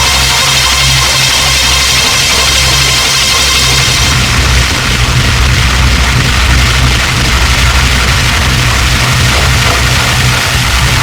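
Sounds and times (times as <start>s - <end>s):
pulsing low bass drone: 0.0s - 11.0s.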